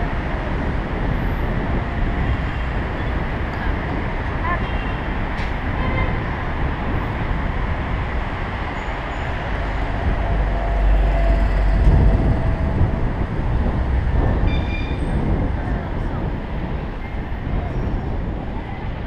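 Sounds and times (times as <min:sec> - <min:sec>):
heavier low rumble: 0:00.0 - 0:19.0
road traffic noise: 0:00.0 - 0:19.0
wind rumble on microphone: 0:00.0 - 0:19.0.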